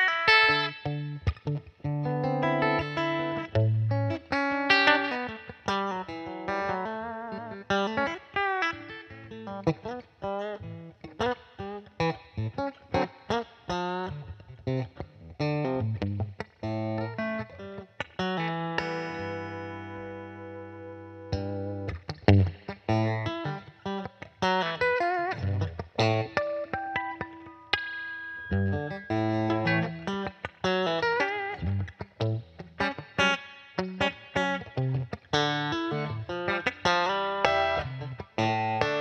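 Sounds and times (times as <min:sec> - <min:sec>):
blues electric guitar: 0:00.0 - 0:39.0.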